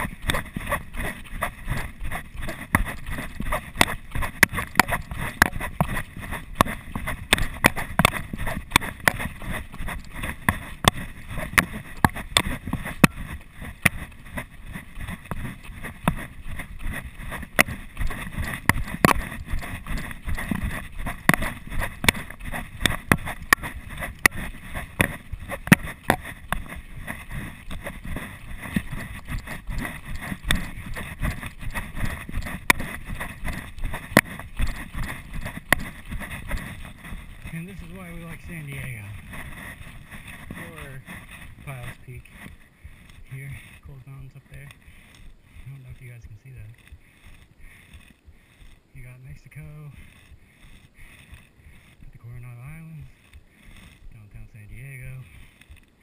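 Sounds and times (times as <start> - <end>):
footsteps on a dirt trail: 0.0 - 56.0.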